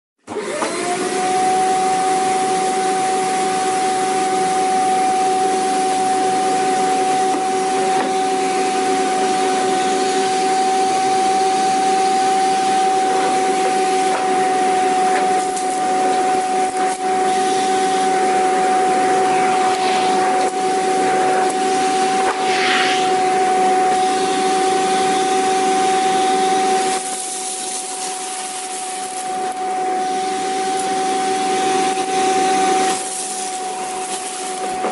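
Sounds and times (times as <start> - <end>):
vacuum cleaner running: 0.2 - 34.9.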